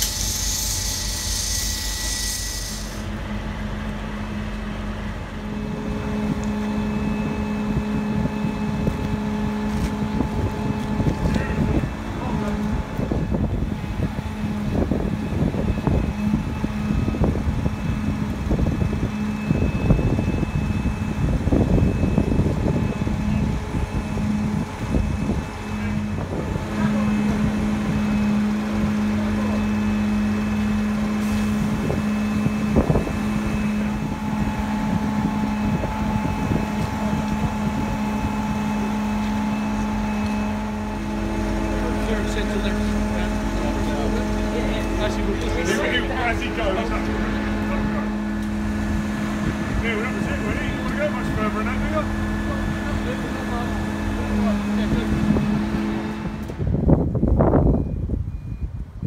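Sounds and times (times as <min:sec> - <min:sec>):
crane diesel engine running: 0:00.0 - 0:59.0
wind buffeting microphone: 0:03.6 - 0:29.3, 0:30.0 - 0:59.0.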